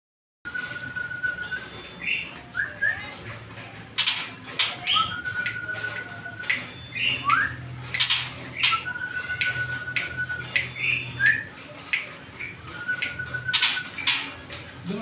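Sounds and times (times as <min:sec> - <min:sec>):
songbird whistling and chirping: 0:00.5 - 0:03.1, 0:04.0 - 0:14.4.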